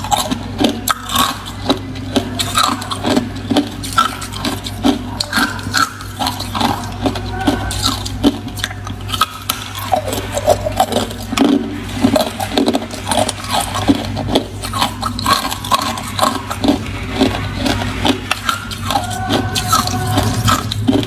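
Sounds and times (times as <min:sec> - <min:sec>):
ice being chewed: 0:00.0 - 0:21.0
steady low hum: 0:00.0 - 0:21.0.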